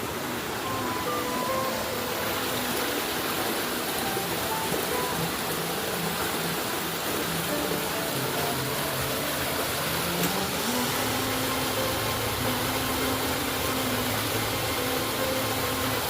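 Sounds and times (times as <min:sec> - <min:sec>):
low sustained tones: 0:00.0 - 0:16.0
waterfall roaring: 0:00.0 - 0:16.0.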